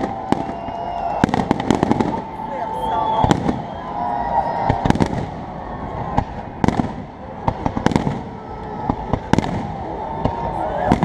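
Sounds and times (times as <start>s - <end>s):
background noise: 0.0s - 11.0s
fireworks bangs: 0.0s - 11.0s.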